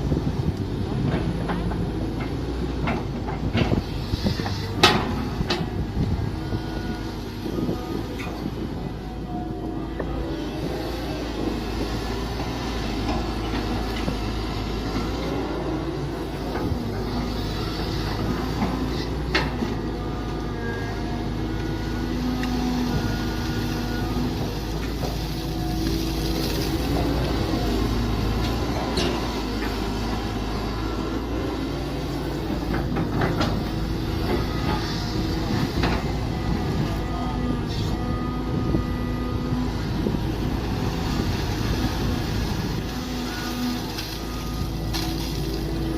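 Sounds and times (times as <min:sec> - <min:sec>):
excavator engine running: 0:00.0 - 0:45.9.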